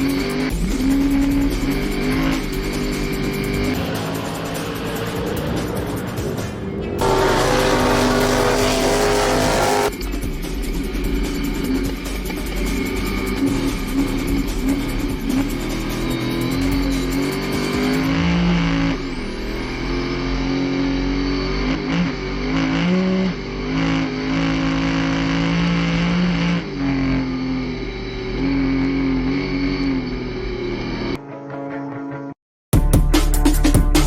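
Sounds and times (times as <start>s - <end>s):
truck engine revving hard: 0.0s - 10.0s, 11.1s - 31.2s.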